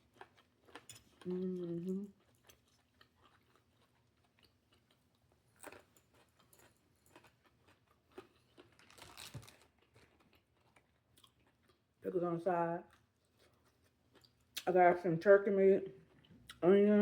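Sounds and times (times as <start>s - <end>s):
chewing and crunching salad: 0.0s - 16.7s.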